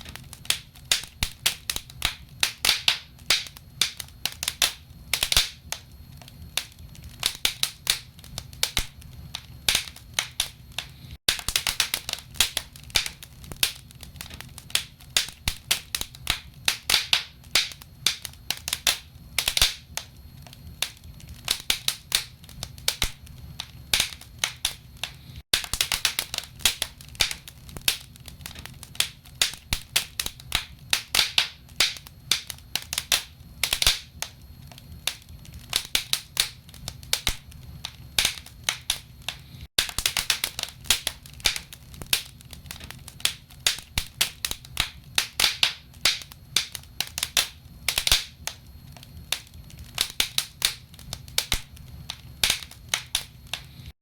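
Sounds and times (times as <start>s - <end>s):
logs crackling and popping: 0.0s - 53.9s.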